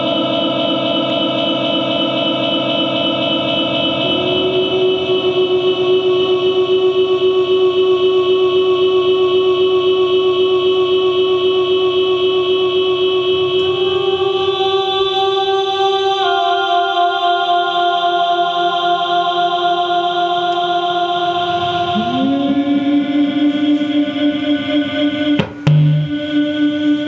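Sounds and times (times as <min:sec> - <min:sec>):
electronic drone chords: 0:00.0 - 0:27.0.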